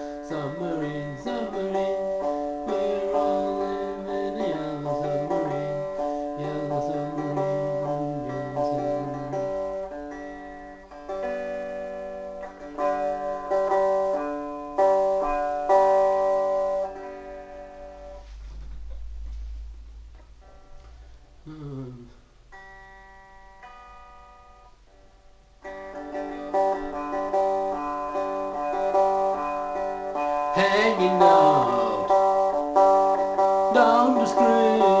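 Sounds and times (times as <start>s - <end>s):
electric guitar playing: 0.0s - 35.0s.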